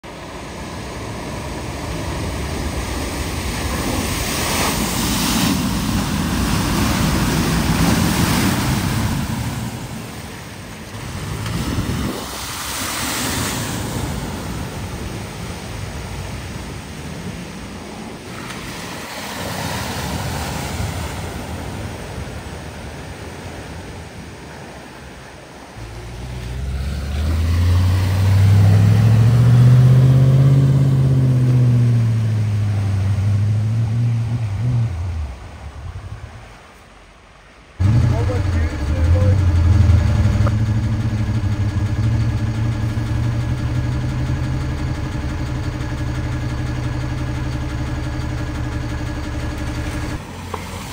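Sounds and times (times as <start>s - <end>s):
car engine under load: 0.0s - 21.5s, 25.5s - 36.7s, 37.8s - 50.9s
rushing splashing water: 0.1s - 50.9s.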